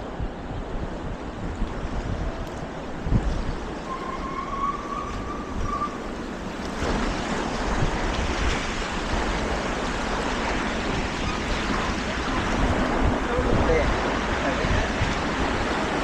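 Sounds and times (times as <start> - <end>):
rushing water: 0.0 - 16.0
wind buffeting microphone: 0.0 - 16.0.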